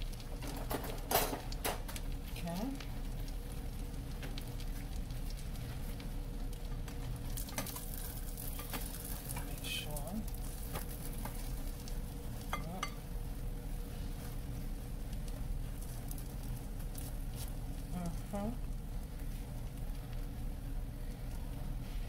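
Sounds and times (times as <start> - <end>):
butter sizzling in pan: 0.0 - 22.0.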